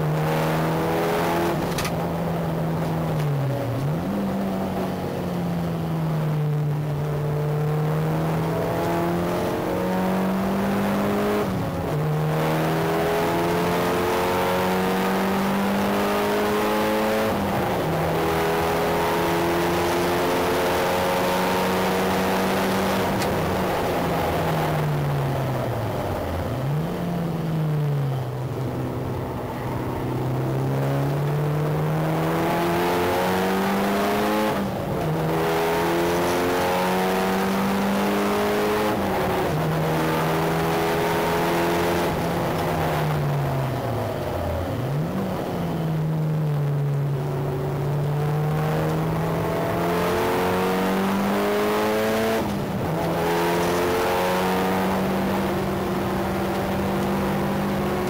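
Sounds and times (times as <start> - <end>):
car engine revving hard: 0.0 - 4.8, 7.2 - 25.1, 30.0 - 43.8, 47.6 - 58.0
tyre road noise: 0.0 - 58.0.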